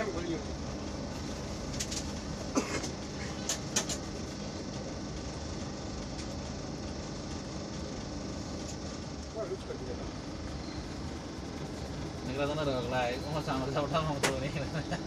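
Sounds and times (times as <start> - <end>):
train rumbling inside coach: 0.0 - 15.0.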